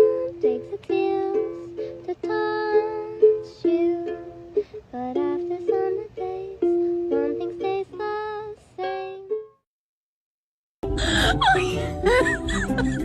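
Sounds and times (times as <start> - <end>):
plucked string melody: 0.0 - 9.6, 10.8 - 13.0.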